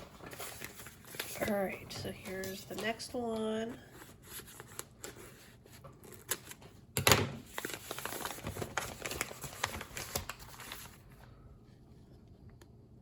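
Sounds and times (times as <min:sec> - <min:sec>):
plastic and paper packing crinkling: 0:00.0 - 0:11.4.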